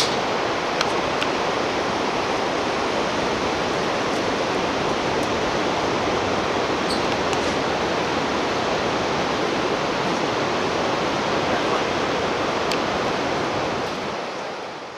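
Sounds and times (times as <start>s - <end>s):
river rapids rushing: 0.0s - 14.9s.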